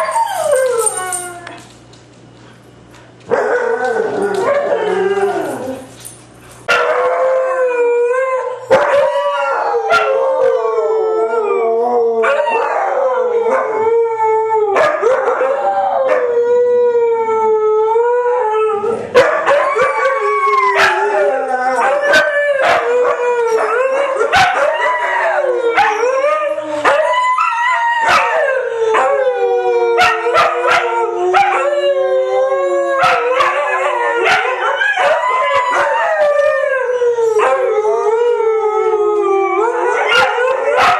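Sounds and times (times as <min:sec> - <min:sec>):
dogs howling: 0:00.0 - 0:01.6, 0:03.3 - 0:05.9, 0:06.7 - 0:40.9.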